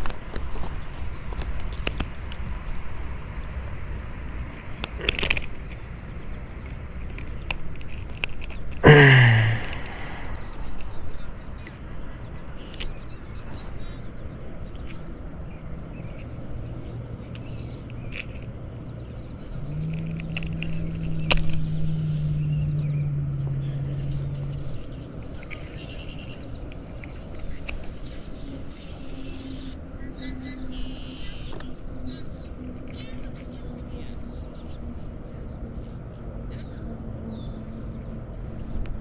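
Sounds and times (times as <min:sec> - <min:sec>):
high insect drone: 0:00.0 - 0:39.0
low steady hum: 0:00.0 - 0:39.0.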